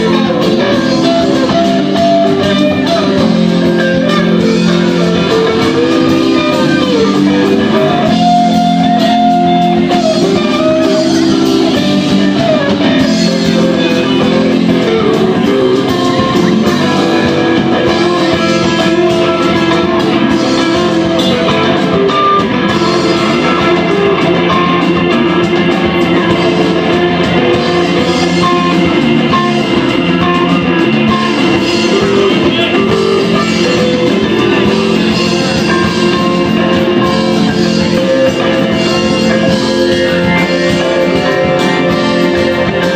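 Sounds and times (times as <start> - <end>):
drum kit: 0.0 - 42.9
electric guitars: 0.0 - 42.9
live rock band playing: 0.0 - 42.9.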